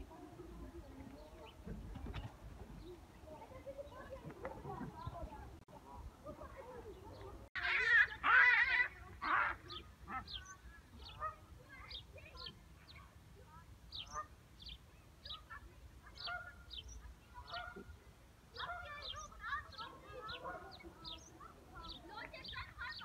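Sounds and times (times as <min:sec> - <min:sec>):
birds chirping and warbling: 0:00.0 - 0:23.0.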